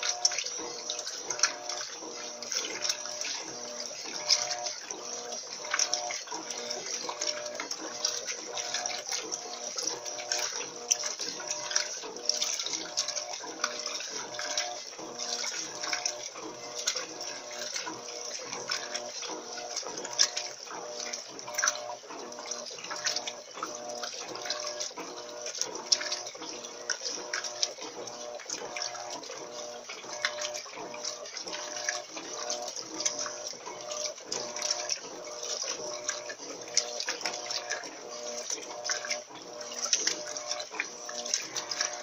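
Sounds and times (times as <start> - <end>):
washing machine motor hum: 0.0 - 42.0
water sloshing in washing machine: 0.0 - 42.0.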